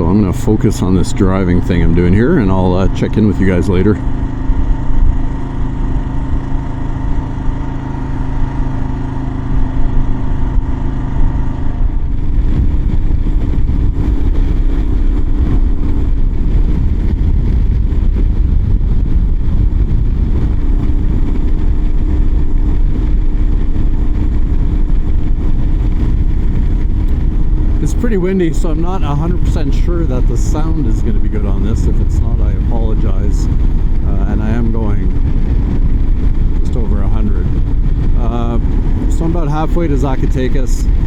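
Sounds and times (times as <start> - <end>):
motorcycle engine running: 0.0 - 41.0
wind rushing over microphone: 0.0 - 41.0.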